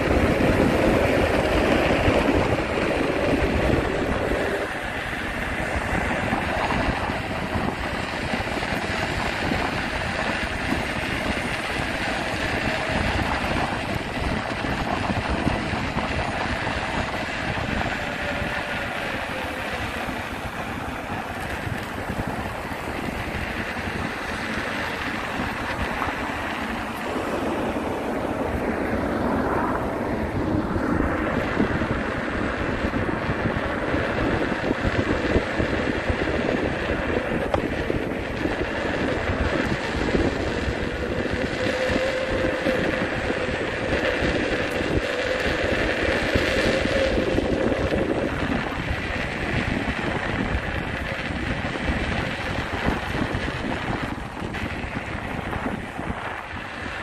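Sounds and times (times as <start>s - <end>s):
road traffic noise: 0.0s - 57.0s
wind buffeting microphone: 0.0s - 57.0s.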